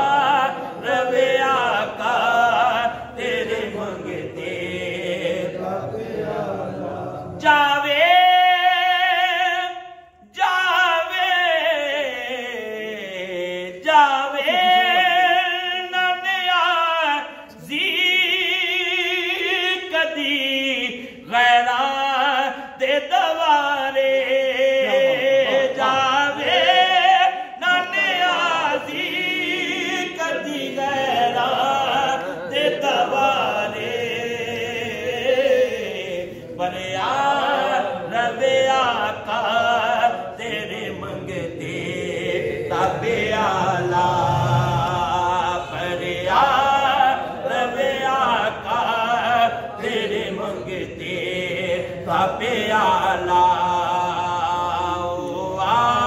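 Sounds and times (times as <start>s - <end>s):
man singing unaccompanied: 0.0s - 6.4s, 7.2s - 56.0s.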